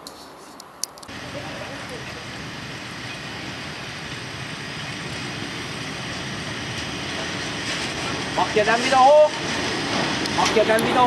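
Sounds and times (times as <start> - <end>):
wagon wheels rumbling on rails: 1.1 - 11.0.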